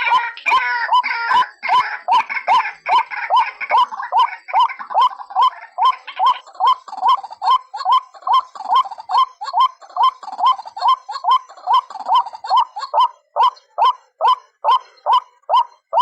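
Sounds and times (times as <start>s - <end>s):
waterhen calls: 0.0s - 16.0s.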